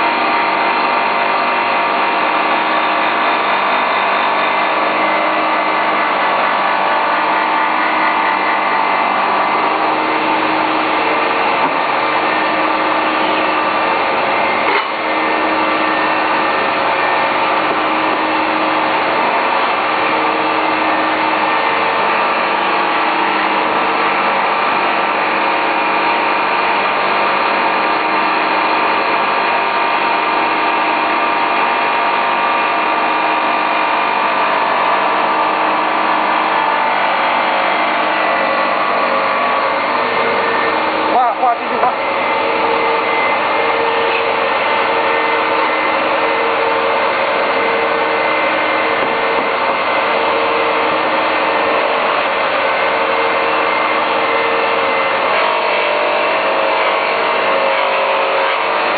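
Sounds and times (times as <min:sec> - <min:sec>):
polishing machine motor humming: 0:00.0 - 0:58.9.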